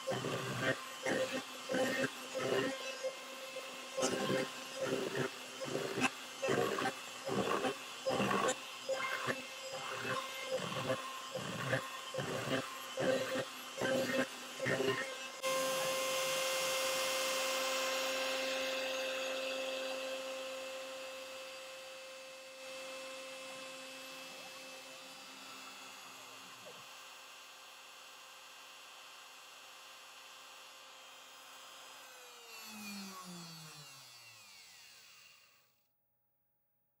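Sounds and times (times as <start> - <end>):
router spindle motor whine: 0.0 - 35.9.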